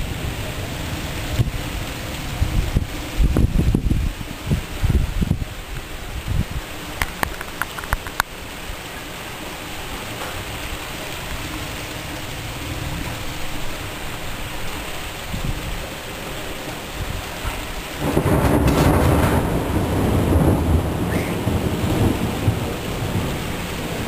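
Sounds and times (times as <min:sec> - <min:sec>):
low thunder rumble: 0:00.0 - 0:06.8, 0:08.4 - 0:24.0
steady heavy rain: 0:00.0 - 0:24.0.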